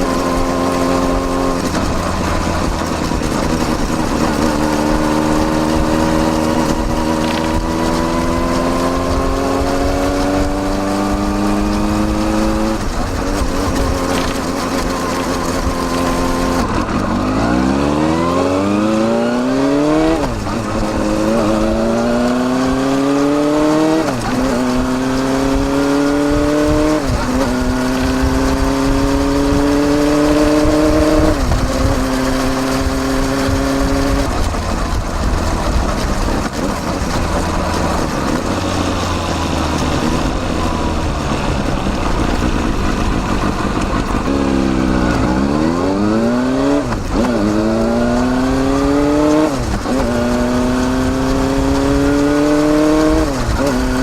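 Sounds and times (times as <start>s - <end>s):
motorcycle exhaust revving: 0.0s - 54.0s.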